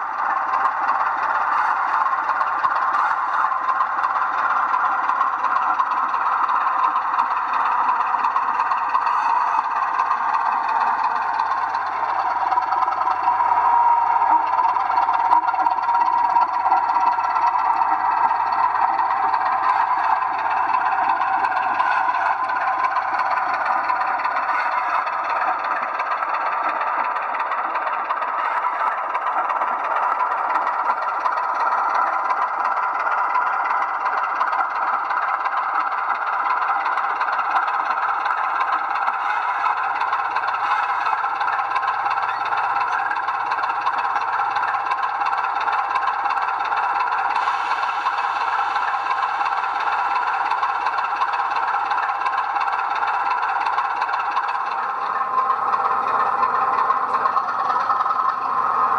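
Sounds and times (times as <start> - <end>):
model train rattling hum: 0.0 - 58.9.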